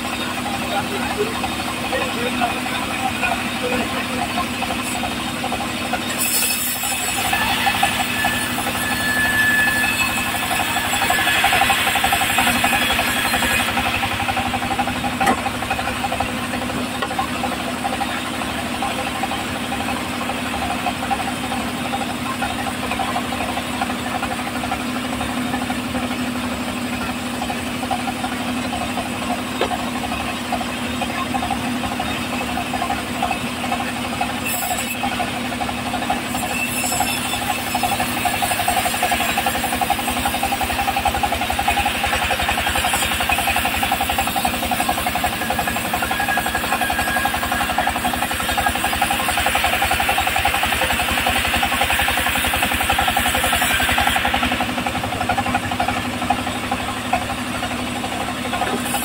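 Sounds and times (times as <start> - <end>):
band sawmill cutting wood: 0.0 - 59.0.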